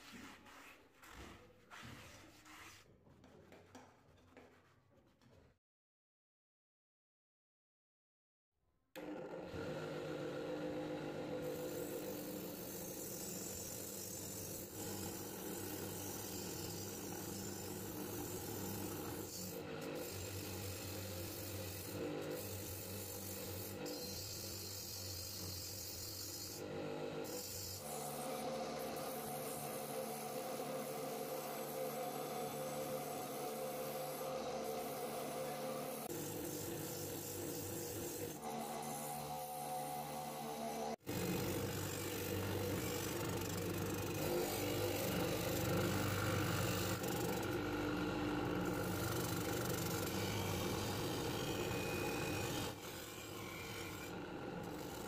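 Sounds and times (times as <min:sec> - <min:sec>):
bench grinder motor humming: 0:09.0 - 0:55.0.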